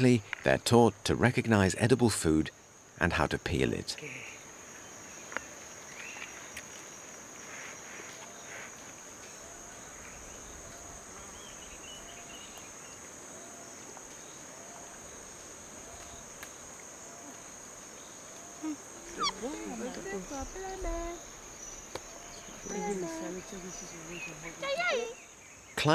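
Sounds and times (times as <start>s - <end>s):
high-pitched insect chorus: 0.0s - 25.9s.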